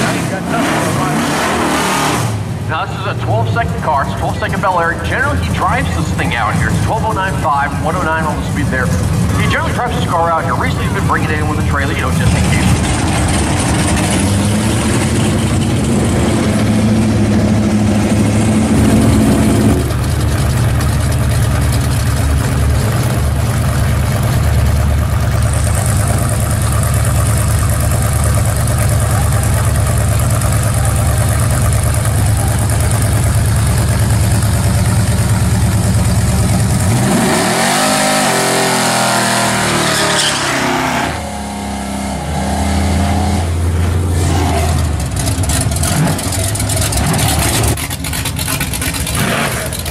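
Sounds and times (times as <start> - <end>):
car engine revving up: 0.0 - 49.9
loud car engine running: 0.0 - 49.9.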